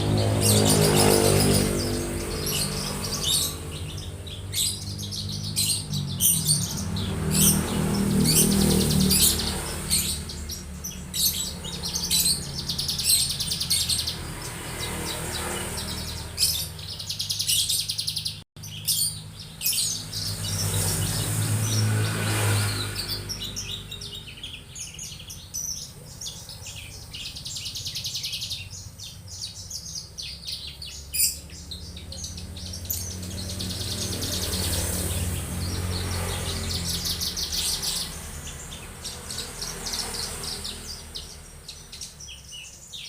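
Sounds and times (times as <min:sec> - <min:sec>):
bird singing chirps and trills: 0:00.0 - 0:43.0.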